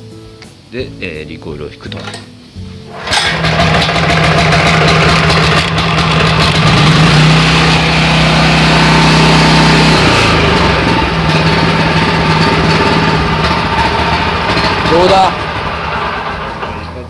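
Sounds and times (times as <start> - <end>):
petrol engine starting and running: 2.9 - 17.0.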